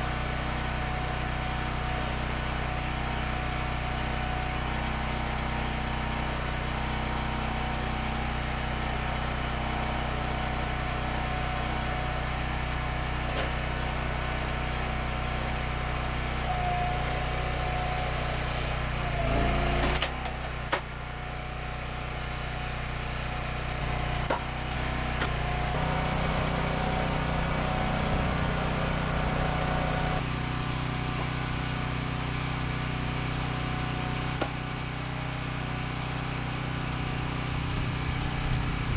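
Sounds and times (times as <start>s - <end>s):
log splitter engine running: 0.0s - 38.9s.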